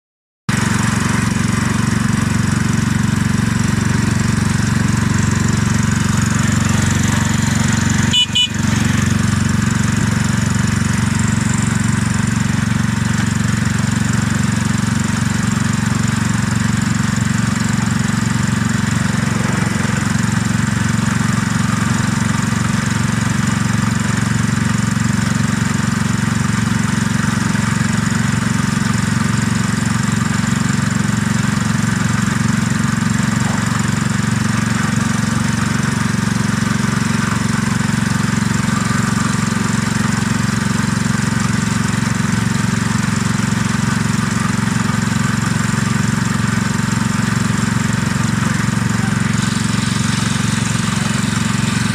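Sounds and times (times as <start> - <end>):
miniature locomotive running: 0.6 - 51.9.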